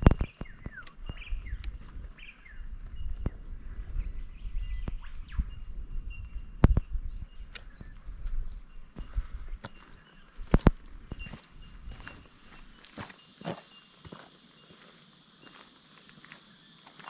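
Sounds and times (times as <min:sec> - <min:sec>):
bird chirps: 0:00.0 - 0:13.9.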